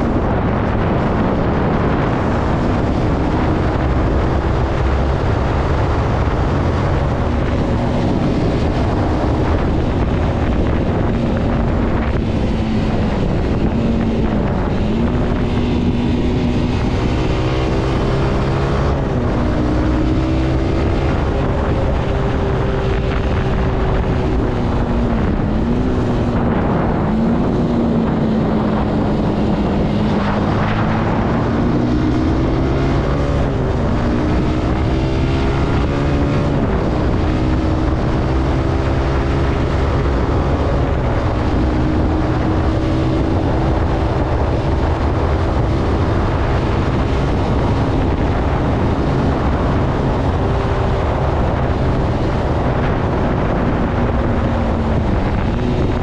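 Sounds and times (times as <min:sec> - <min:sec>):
motorcycle engine revving: 0:00.0 - 0:56.0
wind rushing over microphone: 0:00.0 - 0:56.0.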